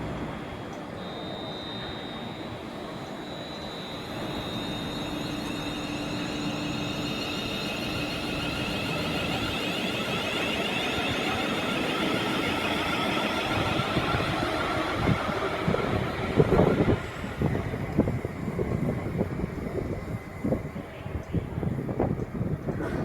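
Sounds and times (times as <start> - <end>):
train rumbling with whine: 0.0 - 23.0.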